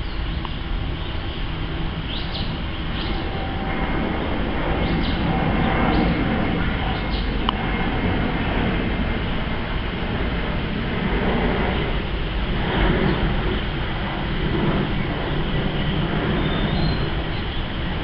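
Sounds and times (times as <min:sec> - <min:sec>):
birds chirping: 0:00.0 - 0:09.5, 0:12.7 - 0:18.0
jet airliner rumbling overhead: 0:00.0 - 0:18.0.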